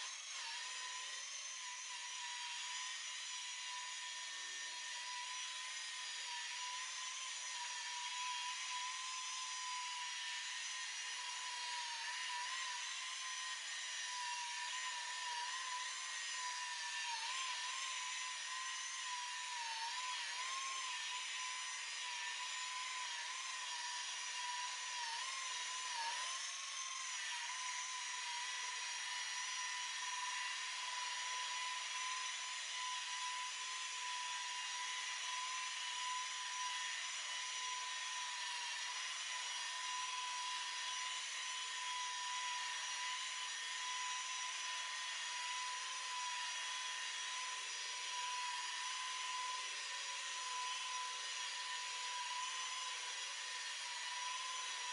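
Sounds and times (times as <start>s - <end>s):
electric rotary buffer whining: 0.0s - 54.9s.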